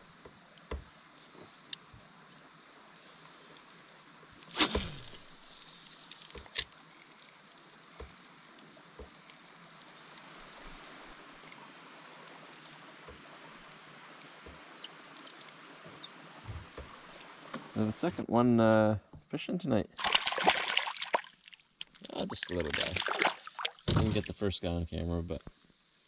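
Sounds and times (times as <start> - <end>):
faint water sounds: 0.0 - 25.7.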